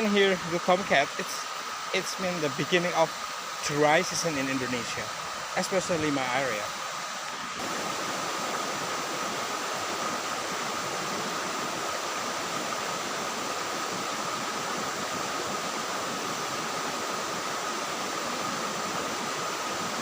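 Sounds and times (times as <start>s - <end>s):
waterfall and river rushing: 0.0s - 20.0s.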